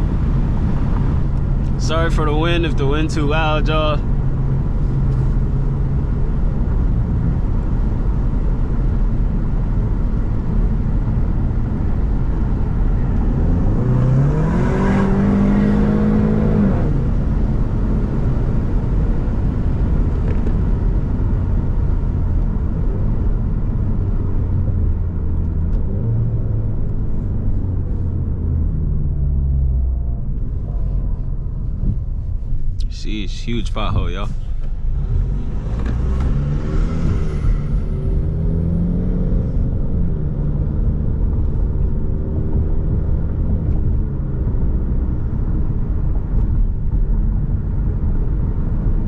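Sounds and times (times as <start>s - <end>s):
car engine accelerating: 0.0s - 49.0s
road rumble: 0.0s - 49.0s.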